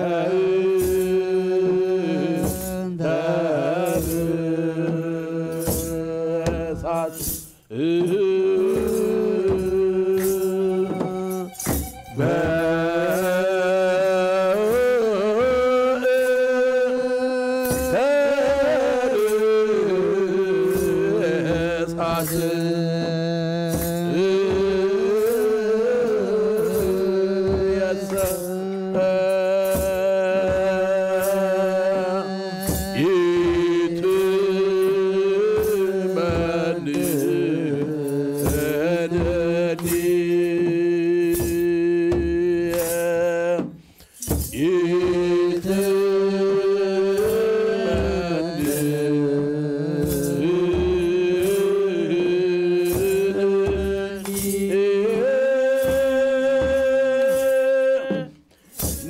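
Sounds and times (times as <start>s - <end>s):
men's choir chanting: 0.0s - 43.7s, 44.5s - 58.3s
drum beat: 0.0s - 59.0s.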